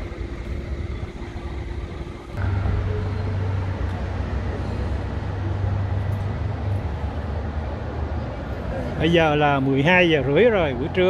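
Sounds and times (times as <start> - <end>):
low hum: 0.0 - 9.0
cars passing: 0.0 - 11.0.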